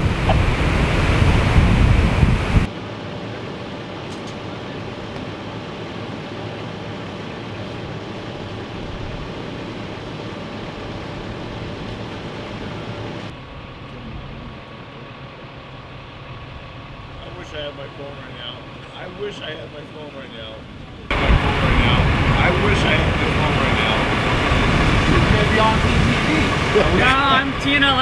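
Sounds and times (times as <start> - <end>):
vehicle engine idling: 3.2 - 28.0.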